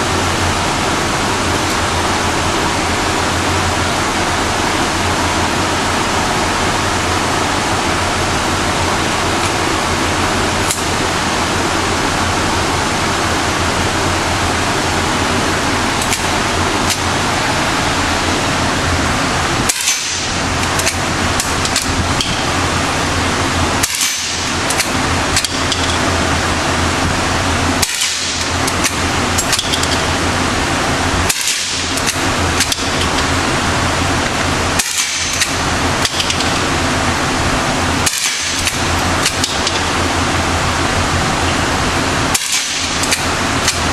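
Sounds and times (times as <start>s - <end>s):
loud rushing noise: 0.0s - 43.9s.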